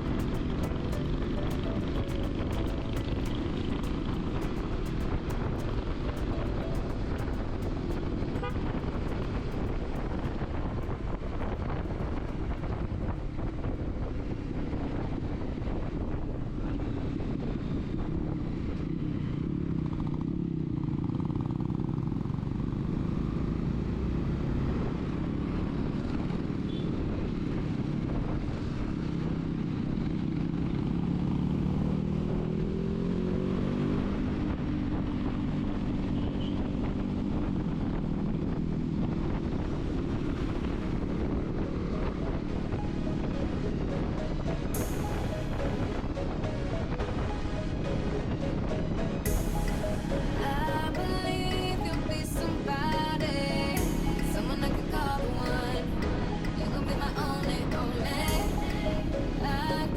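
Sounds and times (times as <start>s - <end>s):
motorcycle engine running: 0.0s - 58.4s
road and wind noise: 0.0s - 59.9s.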